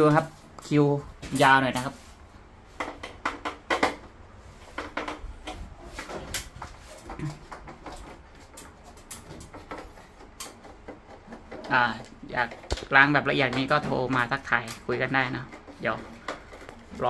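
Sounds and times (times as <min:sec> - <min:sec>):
handling clicks and knocks: 0:02.8 - 0:17.0.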